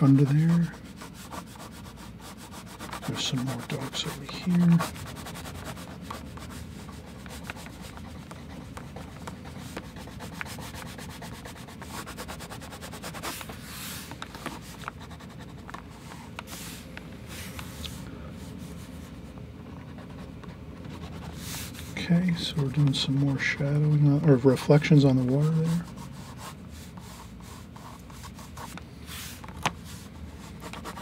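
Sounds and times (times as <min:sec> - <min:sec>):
marker scratching on paper: 0:00.0 - 0:16.8, 0:19.8 - 0:22.2, 0:24.9 - 0:31.0.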